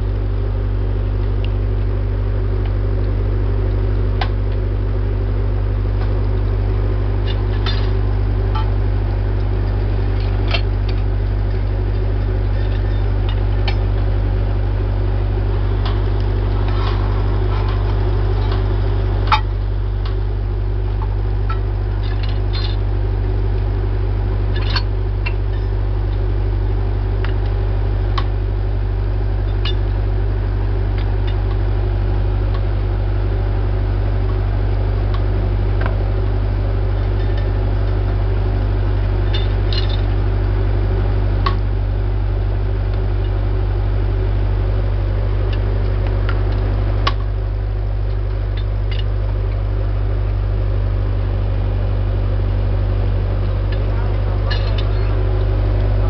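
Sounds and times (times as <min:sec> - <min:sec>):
drilling rig engine drone: 0:00.0 - 0:56.0.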